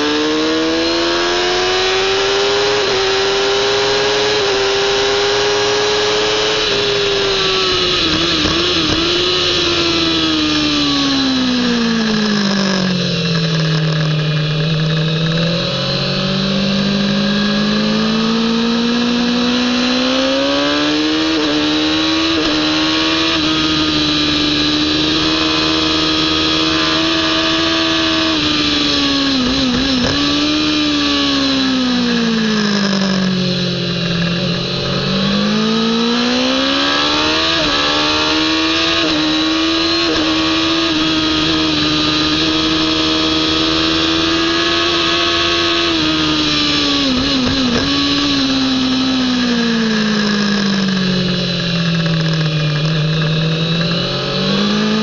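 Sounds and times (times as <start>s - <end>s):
engine rev blips on downshifts: 0.0s - 55.0s
motorcycle engine revving: 0.0s - 55.0s.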